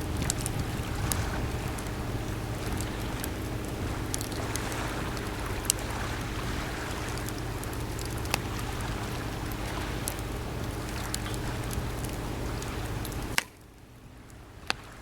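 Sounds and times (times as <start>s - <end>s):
fire popping: 0.0s - 14.4s
campfire crackling: 0.0s - 15.0s
sea waves: 0.0s - 15.0s.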